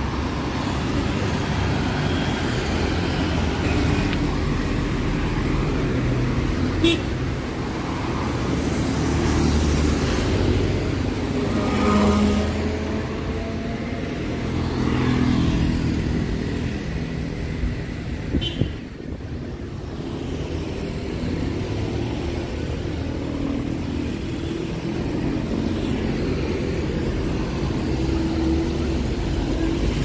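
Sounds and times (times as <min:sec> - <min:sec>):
cars and motorbikes driving past: 0:00.0 - 0:30.0.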